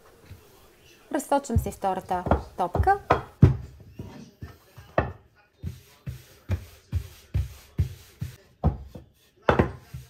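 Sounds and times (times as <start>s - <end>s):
rolling pin thumping on dough: 1.5s - 10.0s.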